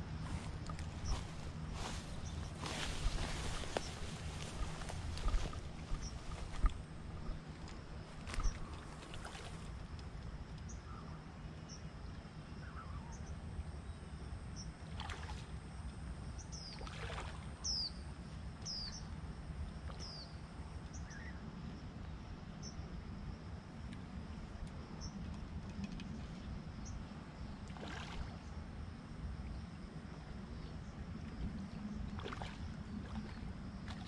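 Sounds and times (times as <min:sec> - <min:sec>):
high insect drone: 0:00.0 - 0:34.0
low steady rumble: 0:00.0 - 0:34.0.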